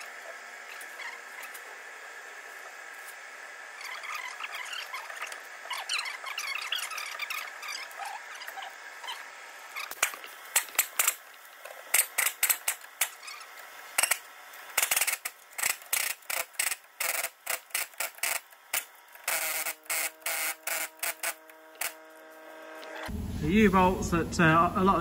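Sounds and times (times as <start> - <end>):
steady whine: 0.0 - 25.0.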